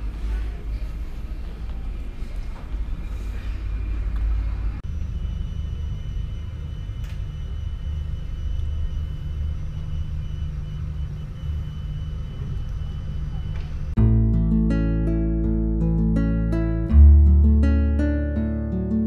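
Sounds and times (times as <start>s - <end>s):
high-pitched whine: 1.9s - 19.0s.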